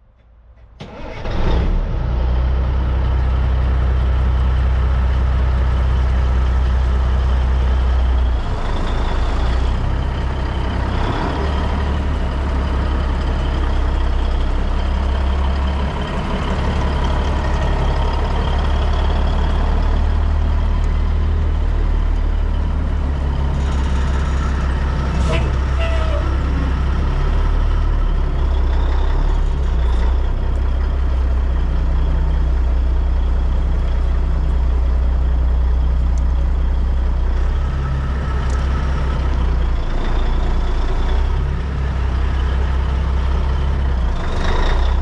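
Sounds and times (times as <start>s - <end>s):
diesel truck engine idling: 1.8s - 45.0s.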